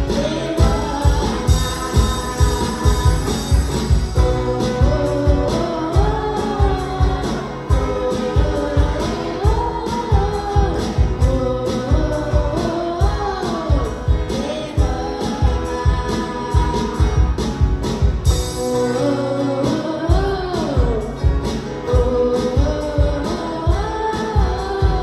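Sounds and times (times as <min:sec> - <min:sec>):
gospel singing with instruments: 0:00.0 - 0:25.0.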